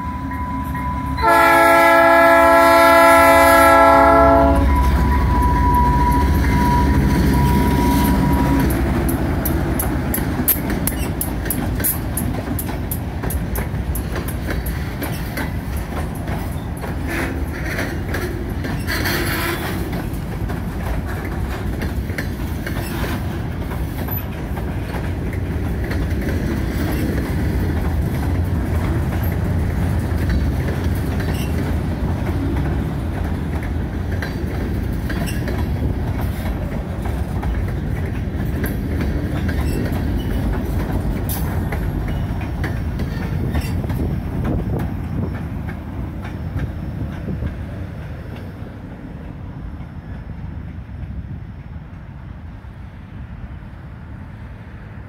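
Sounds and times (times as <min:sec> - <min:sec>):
freight train low rumble: 0:00.0 - 0:55.0
wheels clicking over rail joints: 0:01.2 - 0:51.2.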